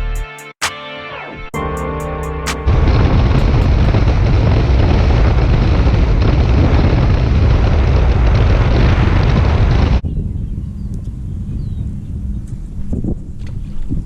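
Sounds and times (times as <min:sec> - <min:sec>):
wind rumble on microphone: 0:02.7 - 0:14.0.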